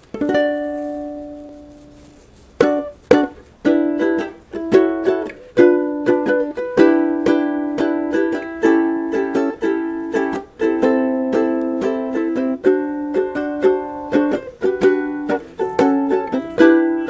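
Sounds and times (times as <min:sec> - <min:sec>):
strummed string chords: 0:02.6 - 0:17.0.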